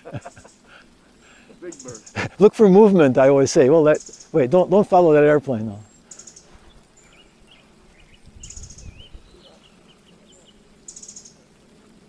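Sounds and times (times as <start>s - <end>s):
wren chipping calls: 0.0s - 2.4s, 3.2s - 11.5s
high buzzy rattle: 0.0s - 12.0s.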